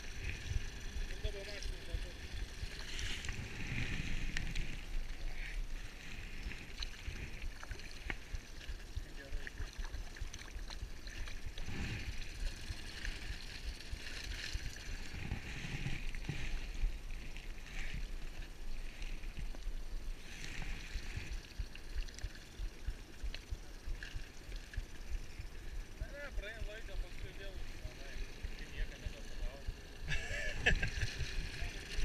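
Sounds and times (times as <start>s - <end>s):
waves lapping against boat: 0.0s - 29.7s
wind rumble on microphone: 0.0s - 32.0s.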